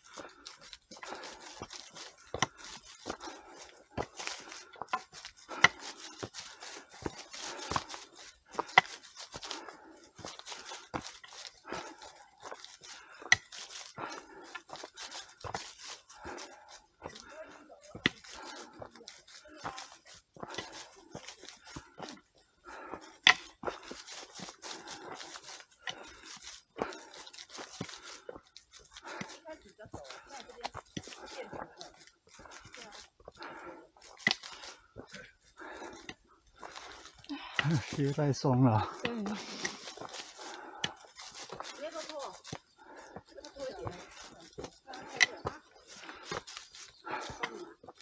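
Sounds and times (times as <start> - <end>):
footsteps on forest trail: 0.0 - 48.0.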